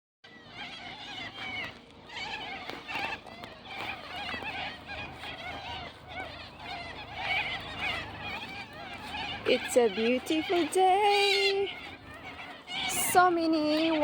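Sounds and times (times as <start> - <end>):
cockatoos calling: 0.3 - 14.0.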